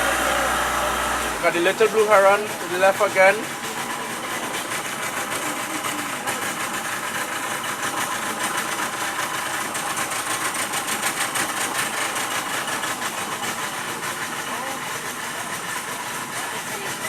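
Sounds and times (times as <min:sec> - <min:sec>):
outboard motor chugging: 0:00.0 - 0:17.0.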